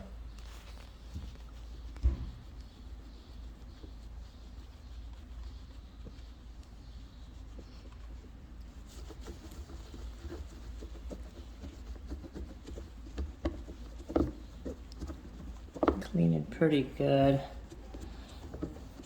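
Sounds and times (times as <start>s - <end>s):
hands scratching and tapping: 0.3s - 19.0s.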